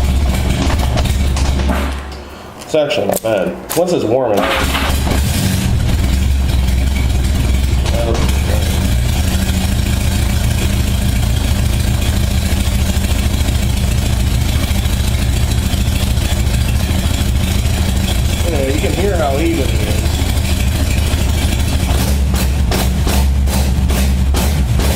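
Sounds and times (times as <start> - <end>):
motorcycle engine idling: 0.0 - 2.5, 4.4 - 24.9.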